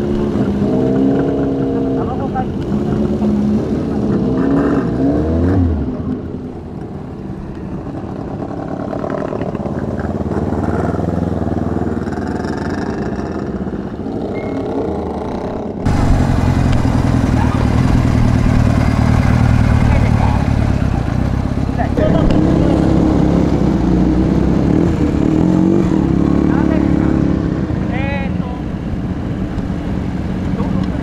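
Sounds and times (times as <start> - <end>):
motorcycle rolling past: 0.0 - 28.0
motorcycle engines revving: 0.0 - 31.0.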